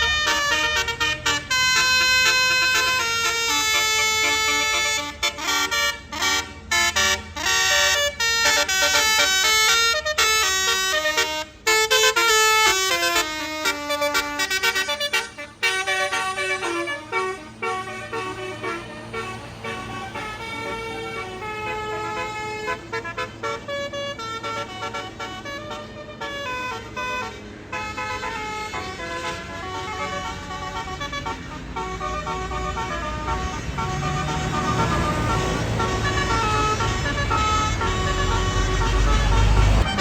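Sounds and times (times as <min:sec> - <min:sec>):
bus engine rumbling: 0:00.0 - 0:40.0
musical air horn melody: 0:00.0 - 0:40.0.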